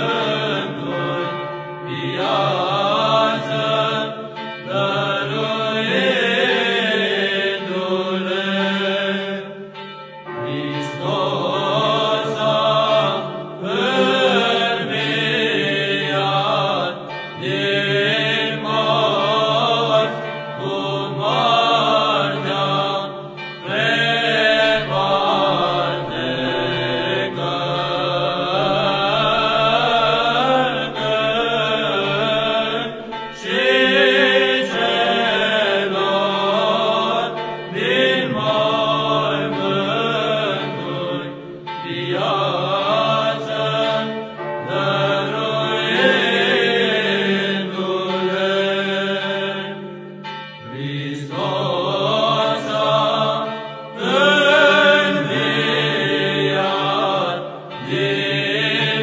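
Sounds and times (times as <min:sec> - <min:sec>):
chanted sung phrases: 0:00.0 - 0:09.7, 0:10.4 - 0:59.0.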